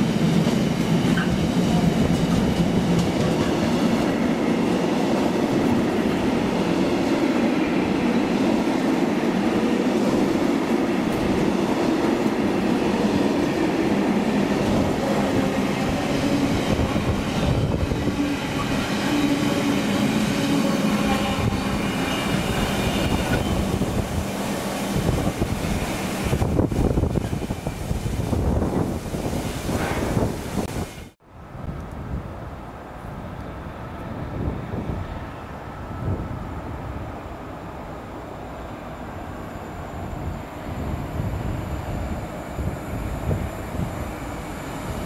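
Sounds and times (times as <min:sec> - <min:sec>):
freight train wagons rumbling past: 0:00.0 - 0:45.0.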